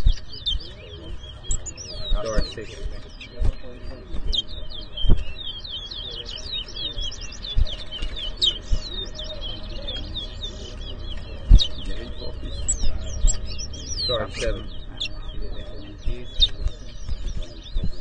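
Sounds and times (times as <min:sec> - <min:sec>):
finches singing whistled chirps: 0:00.0 - 0:18.0.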